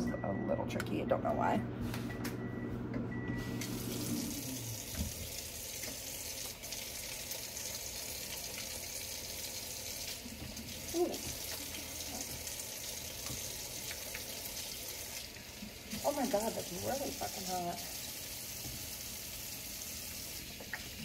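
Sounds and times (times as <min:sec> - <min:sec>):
faucet running into sink: 0:03.6 - 0:21.0.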